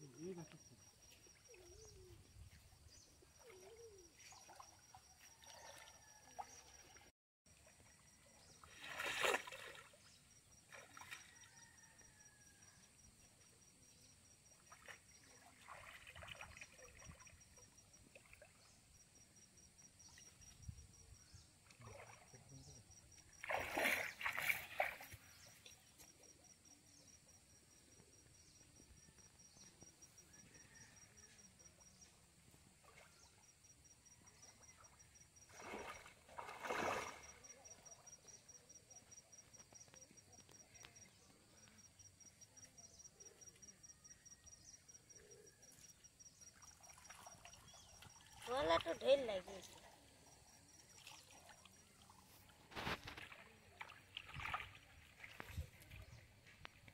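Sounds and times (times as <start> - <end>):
water splashing in a pond: 0.0 - 12.8, 14.4 - 27.1, 29.9 - 43.4, 46.2 - 56.9.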